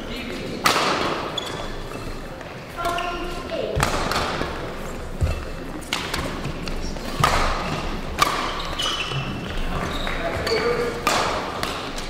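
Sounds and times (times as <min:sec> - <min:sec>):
shoes squeaking on court floor: 0:00.0 - 0:12.0
racket hitting shuttlecock: 0:00.6 - 0:02.0, 0:02.8 - 0:12.0.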